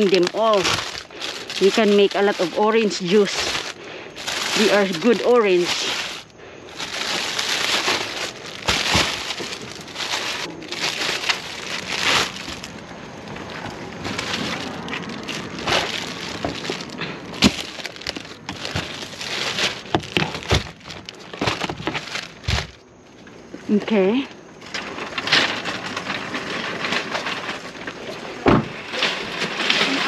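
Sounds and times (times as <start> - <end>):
plastic bags rustling: 0.0 - 23.0, 24.6 - 30.0.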